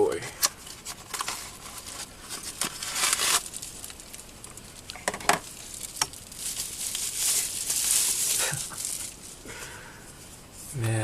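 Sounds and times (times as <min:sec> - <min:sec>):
packaging rustling and scraping: 0:00.3 - 0:09.5.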